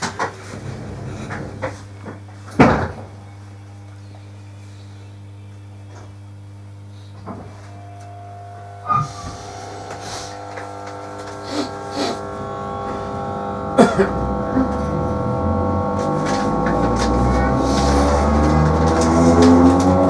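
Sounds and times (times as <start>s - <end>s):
train low rumble: 0.0s - 4.2s, 7.5s - 20.0s
electrical equipment hum: 0.0s - 20.0s.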